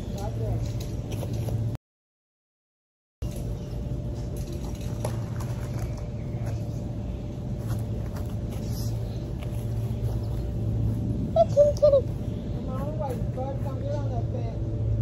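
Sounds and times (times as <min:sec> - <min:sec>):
steady low hum: 0:00.0 - 0:01.8, 0:03.2 - 0:15.0.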